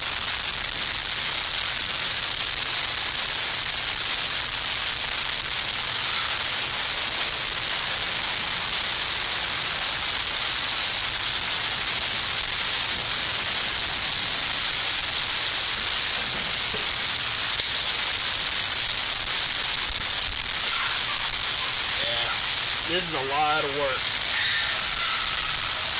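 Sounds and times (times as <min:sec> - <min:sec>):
camp stove flames hissing: 0:00.0 - 0:25.9.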